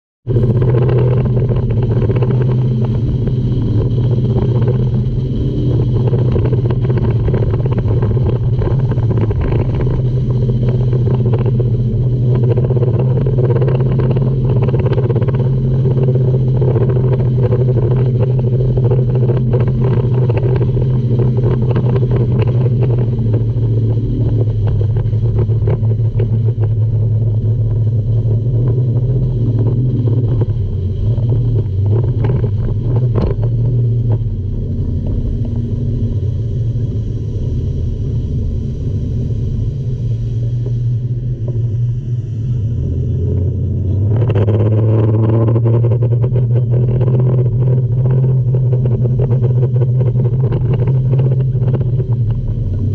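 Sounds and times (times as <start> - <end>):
outboard engine droning: 0.2 - 52.9
water rushing along hull: 0.2 - 52.9.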